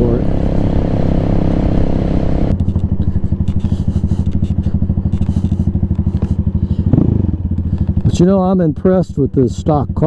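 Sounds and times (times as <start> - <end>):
motorcycle engine: 0.0 - 10.0.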